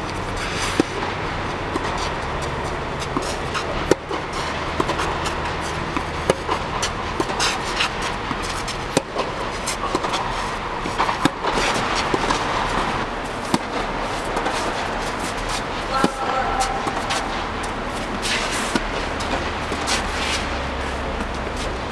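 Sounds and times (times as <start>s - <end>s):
steady hum and hiss: 0.0s - 21.9s
tennis ball bouncing on court: 0.0s - 21.9s
tennis racket hitting ball: 0.0s - 21.9s.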